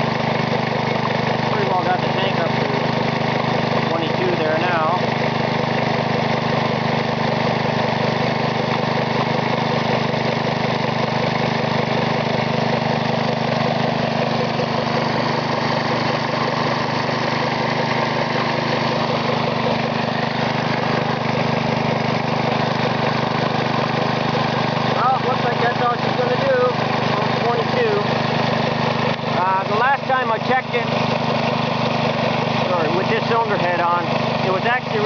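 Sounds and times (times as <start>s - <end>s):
air compressor engine running: 0.0s - 35.0s.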